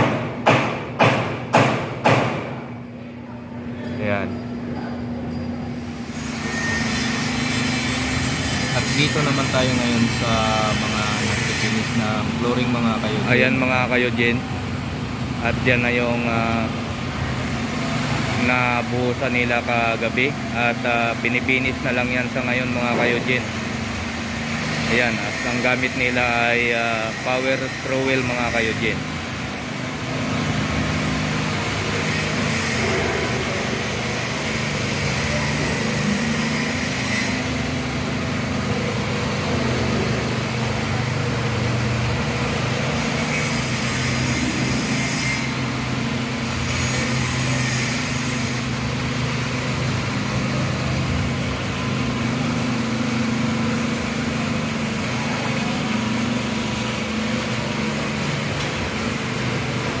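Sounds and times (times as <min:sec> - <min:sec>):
power trowel engine running: 0:06.0 - 1:00.0.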